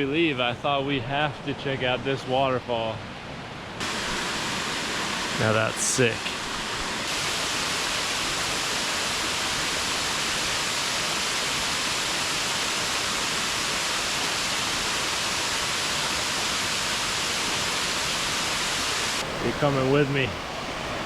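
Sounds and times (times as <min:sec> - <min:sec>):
waterfall rushing: 0:03.8 - 0:21.0.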